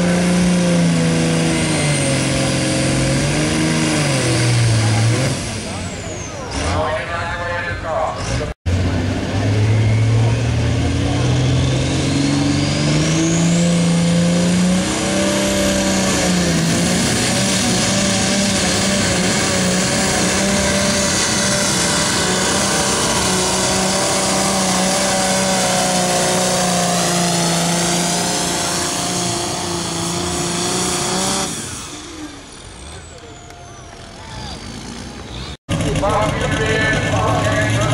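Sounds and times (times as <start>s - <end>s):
diesel tractor engine at full throttle: 0.0s - 37.9s.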